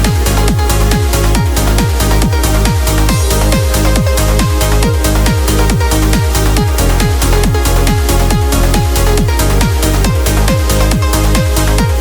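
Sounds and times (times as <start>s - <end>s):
trance music: 0.0s - 12.0s.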